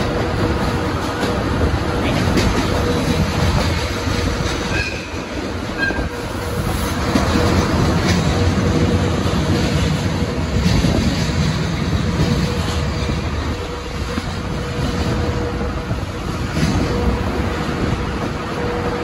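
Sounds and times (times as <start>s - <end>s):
passenger train rumbling: 0.0s - 19.0s
rail-joint clicks: 0.0s - 19.0s.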